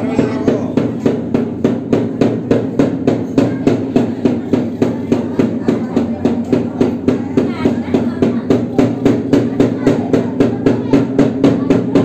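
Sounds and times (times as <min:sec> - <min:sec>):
hand drum beaten fast: 0:00.0 - 0:12.0.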